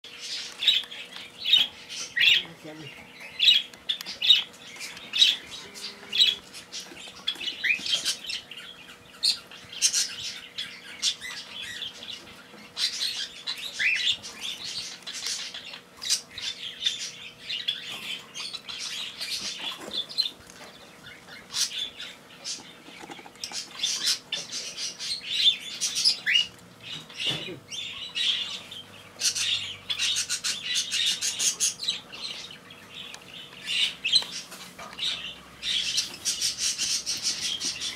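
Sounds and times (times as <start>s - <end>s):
parakeets chirping and squawking: 0.0s - 37.9s.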